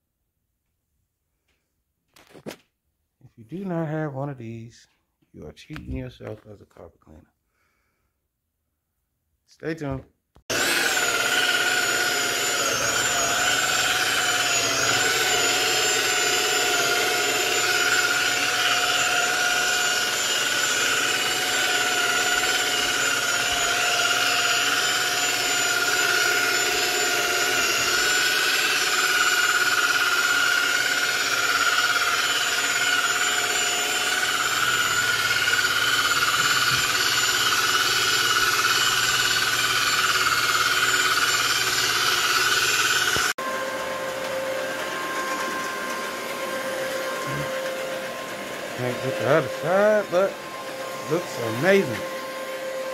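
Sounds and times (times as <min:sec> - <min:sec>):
electric polisher motor whine: 0:10.5 - 0:52.9.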